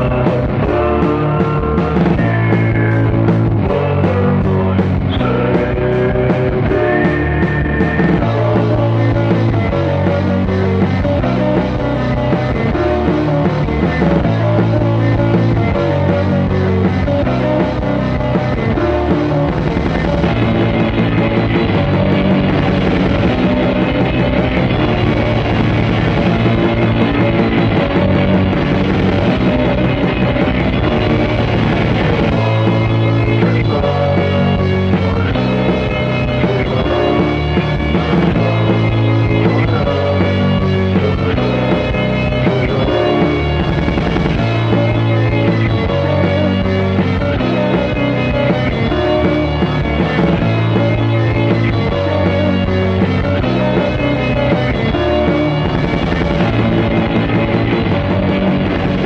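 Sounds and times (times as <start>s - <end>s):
instrumental music: 0.0s - 59.0s.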